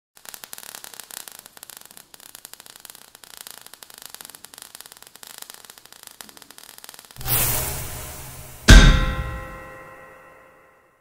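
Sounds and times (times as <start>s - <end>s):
fire crackling: 0.2s - 9.8s
steady hiss: 0.2s - 9.9s.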